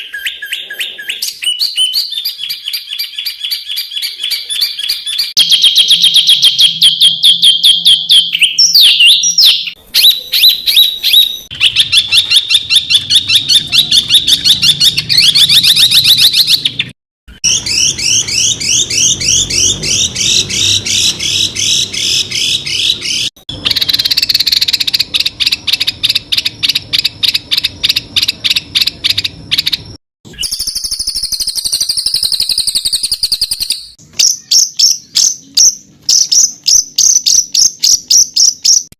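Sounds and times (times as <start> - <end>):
recorded rapid high songbird notes: 0.0 - 38.9.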